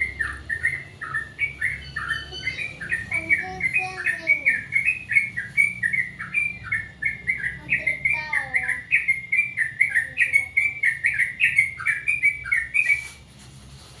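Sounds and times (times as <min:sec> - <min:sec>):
bird chirping song: 0:00.0 - 0:13.2.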